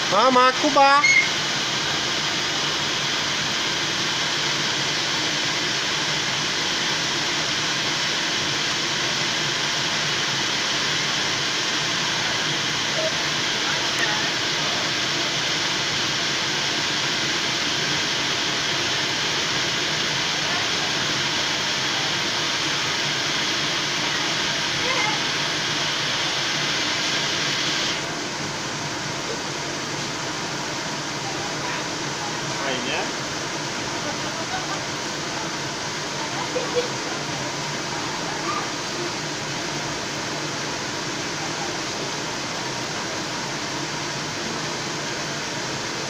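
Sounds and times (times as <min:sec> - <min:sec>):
air blower droning: 0:00.0 - 0:46.0.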